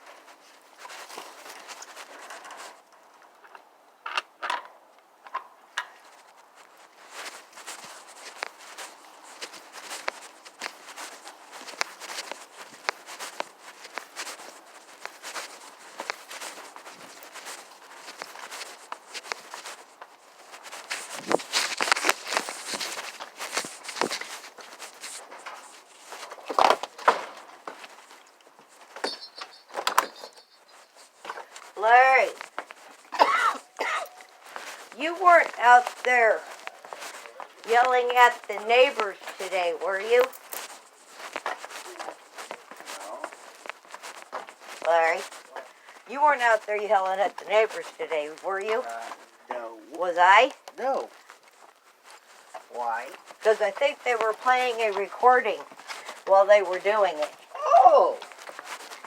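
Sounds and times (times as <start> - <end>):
footsteps on dry ground: 0.0 - 2.9, 5.3 - 59.0
knocks and scuffs: 5.3 - 49.5, 50.2 - 59.0.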